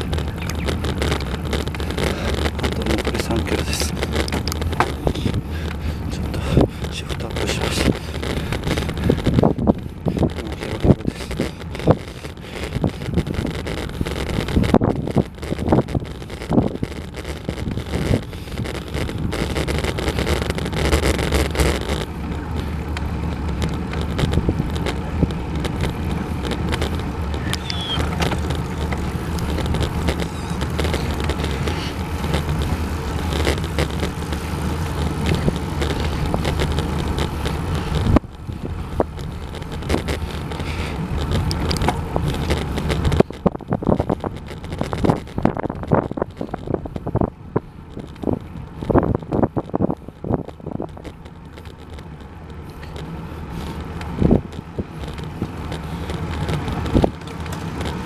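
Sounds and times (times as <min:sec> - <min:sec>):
wind buffeting microphone: 0:00.0 - 0:52.0, 0:53.2 - 0:58.0
bicycle tyre rumble on road: 0:00.0 - 0:58.0.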